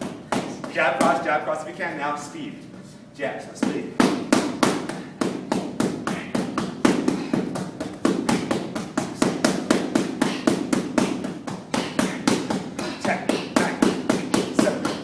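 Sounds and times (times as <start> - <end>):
boxing gloves smacking pads: 0.0 - 1.3, 3.6 - 15.0.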